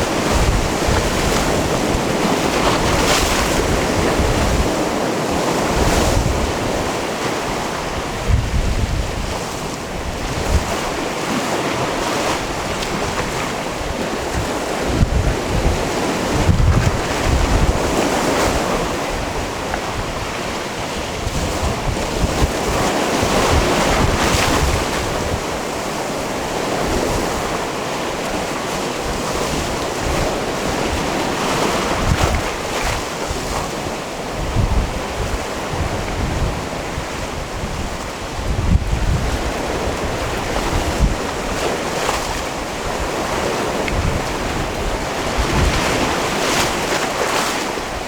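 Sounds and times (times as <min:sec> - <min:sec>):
sea waves on rocky shore: 0:00.0 - 0:48.0
wind buffeting microphone: 0:00.0 - 0:48.0.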